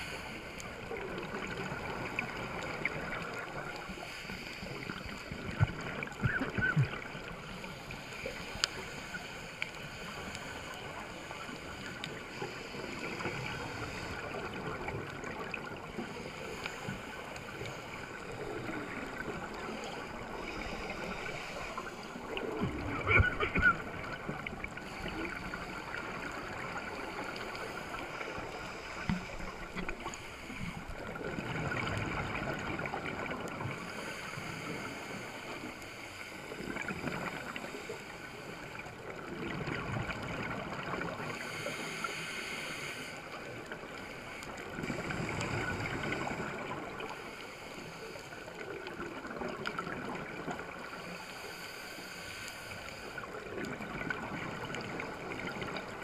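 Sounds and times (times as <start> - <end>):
diver breathing through a regulator: 0.0 - 14.7, 15.9 - 31.2, 33.6 - 39.0, 41.0 - 48.8, 50.6 - 53.8
exhaled bubbles gurgling: 0.0 - 35.7, 38.7 - 42.2, 43.4 - 47.2, 48.5 - 51.1, 53.1 - 56.0.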